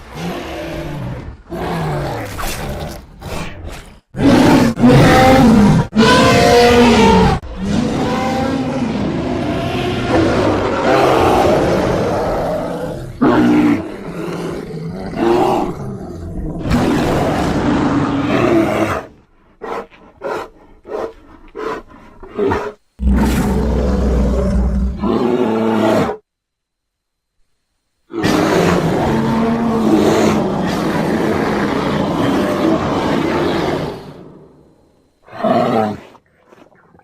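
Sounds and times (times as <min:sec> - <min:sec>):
bear growling roars: 0:00.0 - 0:26.2, 0:28.1 - 0:34.6.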